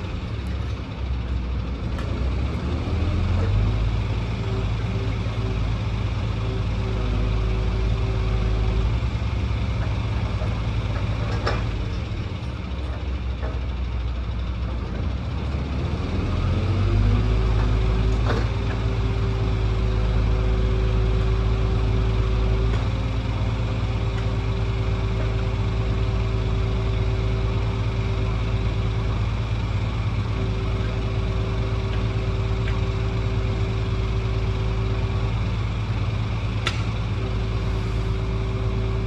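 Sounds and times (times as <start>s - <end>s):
heavy diesel engine running: 0.0s - 39.0s.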